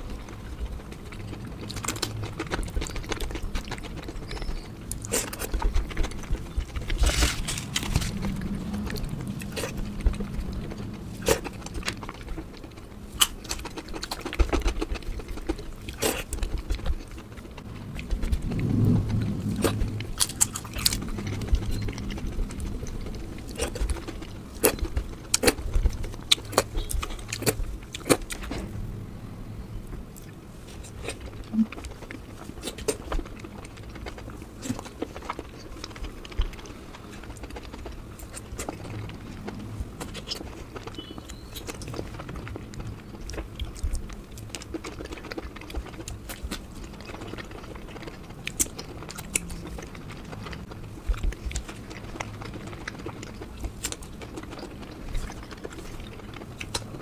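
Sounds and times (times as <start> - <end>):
chewing: 0.0 - 28.8, 29.8 - 57.0.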